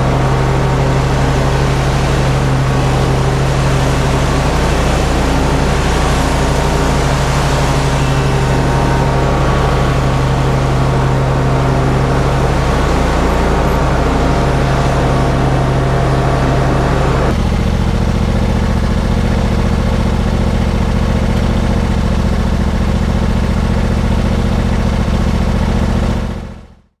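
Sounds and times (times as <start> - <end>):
mower engine running: 0.0 - 26.9.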